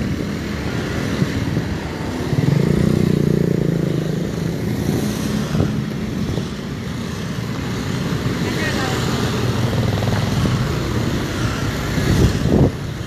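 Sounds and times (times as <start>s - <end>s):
motorcycle engines passing: 0.0s - 13.0s
road traffic: 0.0s - 13.0s.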